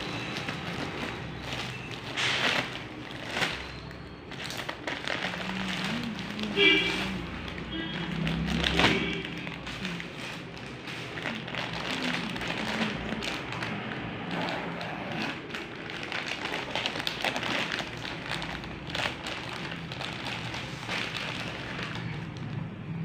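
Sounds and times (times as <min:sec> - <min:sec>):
plastic pouch crinkling: 0:00.0 - 0:22.7.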